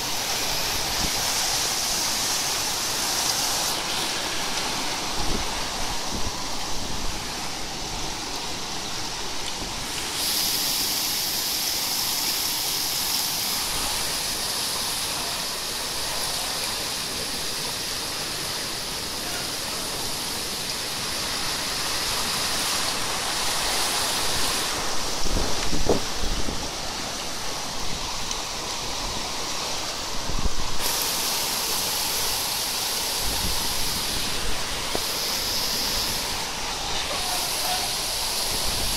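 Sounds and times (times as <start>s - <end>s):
torrential rain pouring: 0.0s - 38.9s.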